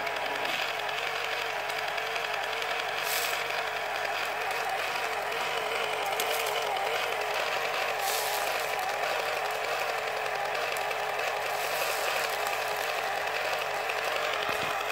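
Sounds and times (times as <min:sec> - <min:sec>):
small electric motor whine: 0:00.0 - 0:14.9.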